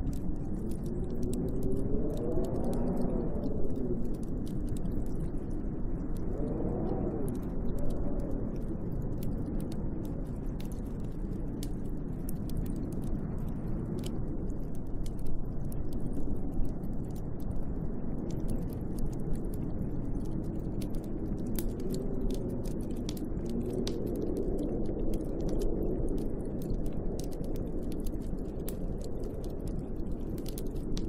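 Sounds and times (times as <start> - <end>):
howling wind against a window: 0.0 - 14.8, 16.2 - 31.0
small ticks and crackles: 0.0 - 31.0.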